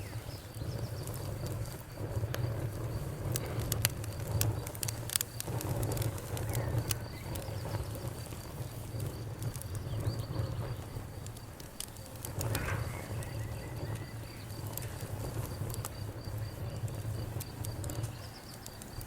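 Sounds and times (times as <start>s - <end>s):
low rumble of burning fire: 0.0s - 19.0s
wood fire crackling: 0.0s - 19.0s.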